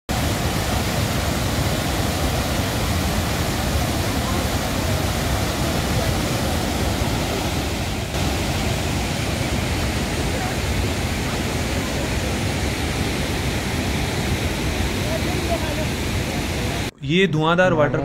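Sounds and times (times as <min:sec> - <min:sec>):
waterfall roaring: 0:00.1 - 0:16.9.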